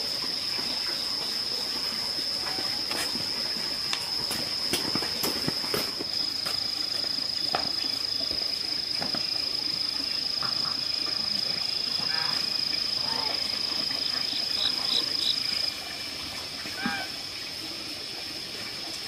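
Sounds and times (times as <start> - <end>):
high-pitched insect drone: 0.0 - 16.1.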